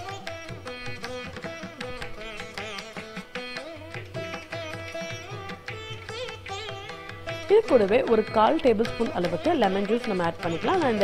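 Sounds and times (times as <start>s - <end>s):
hand drums: 0.0s - 11.0s.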